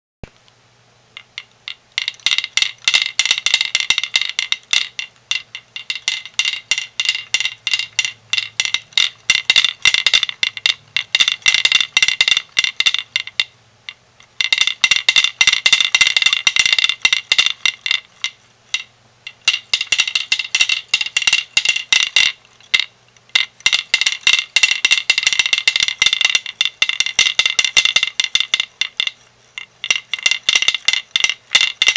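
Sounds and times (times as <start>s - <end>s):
wooden toy clacking rattle: 1.1s - 31.9s.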